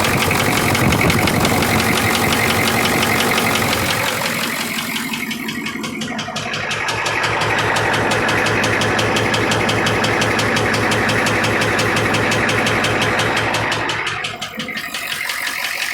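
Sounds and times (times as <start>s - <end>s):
diesel engine knocking: 0.0s - 15.9s.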